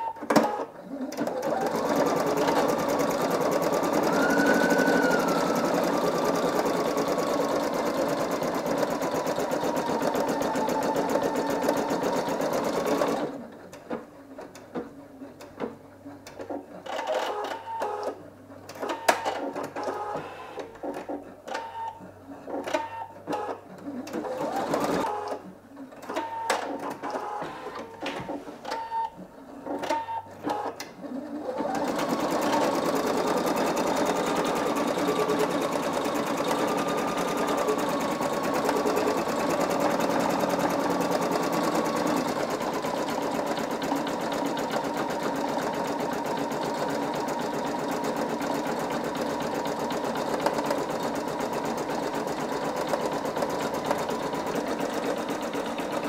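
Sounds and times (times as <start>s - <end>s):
embroidery machine stitching: 0.0s - 15.0s, 16.0s - 28.1s, 29.6s - 56.0s.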